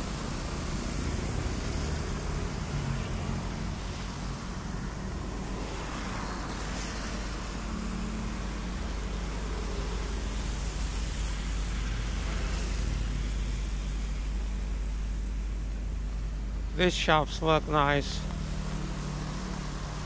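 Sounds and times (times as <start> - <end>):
cars and motorbikes passing: 0.0 - 20.0
low traffic rumble: 0.0 - 20.0
tyre hiss on wet road: 0.0 - 20.0.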